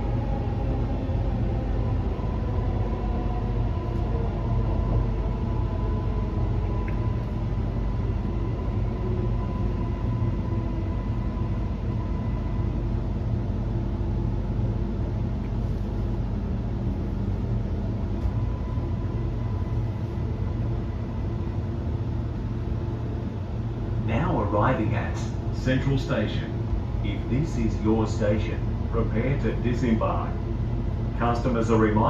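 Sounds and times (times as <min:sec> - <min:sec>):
thin steady whine: 0:00.0 - 0:32.0
train running low rumble: 0:00.0 - 0:32.0.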